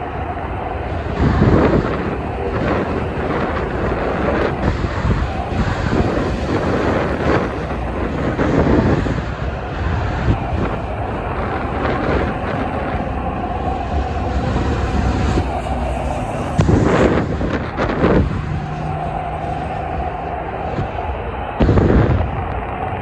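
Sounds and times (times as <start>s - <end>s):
highway traffic rumble: 0.0s - 23.0s
wind buffeting microphone: 0.0s - 23.0s.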